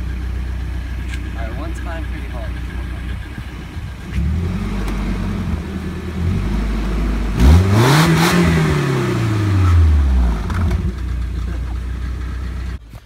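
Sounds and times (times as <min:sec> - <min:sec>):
car engine idling without muffler: 0:00.0 - 0:07.4, 0:08.4 - 0:13.0
engine revving: 0:01.0 - 0:12.8.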